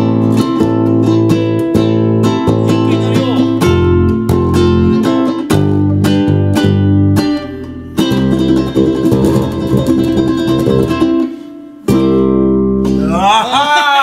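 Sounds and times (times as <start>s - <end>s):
plucked bass line: 0.0s - 13.8s
strummed ukulele chords: 0.0s - 14.0s.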